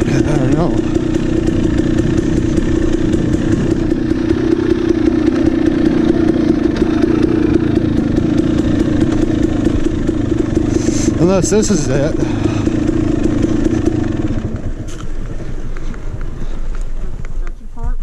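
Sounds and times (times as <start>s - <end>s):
bike rattling and clatter: 0.0s - 17.5s
dirt bike engine running: 0.0s - 18.0s.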